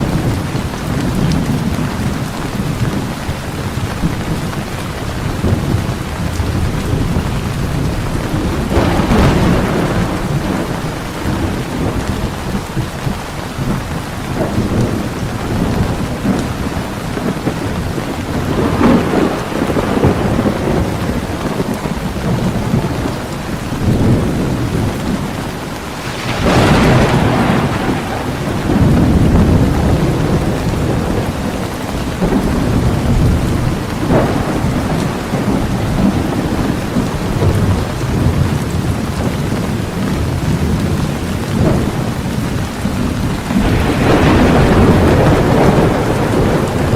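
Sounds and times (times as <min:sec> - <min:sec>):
heavy rain pouring: 0:00.0 - 0:46.9
rolling thunder: 0:00.0 - 0:46.9.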